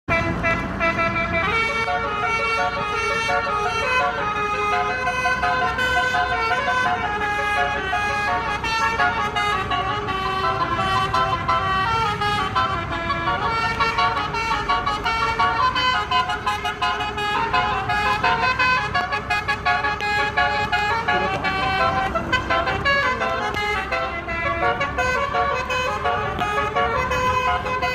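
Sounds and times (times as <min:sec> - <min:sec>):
multi-tone bus horn melody: 0:00.1 - 0:27.9.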